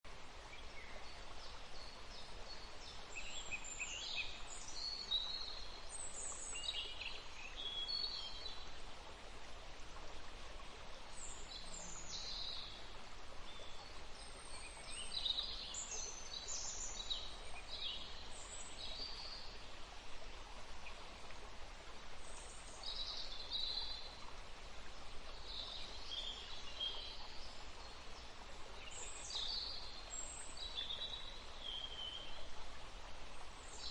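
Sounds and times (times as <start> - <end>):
small river rushing: 0.1 - 33.9.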